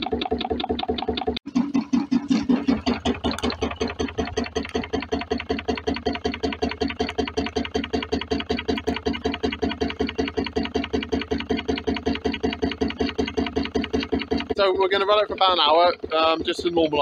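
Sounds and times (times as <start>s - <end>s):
stirling engine running: 0.0s - 17.0s.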